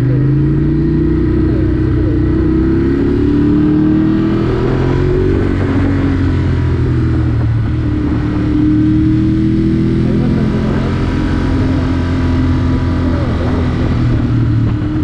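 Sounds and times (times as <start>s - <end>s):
road and wind rumble: 0.0s - 15.0s
vehicle engine running: 0.0s - 15.0s.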